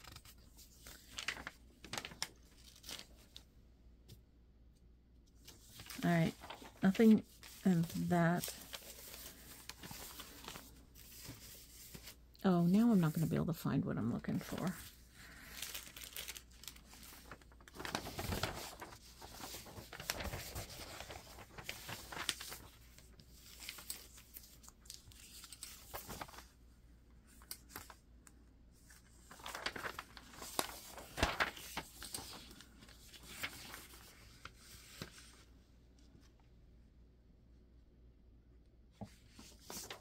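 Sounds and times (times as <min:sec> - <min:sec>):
magazine pages rustling: 0:00.0 - 0:03.5, 0:05.3 - 0:36.4, 0:39.0 - 0:40.0.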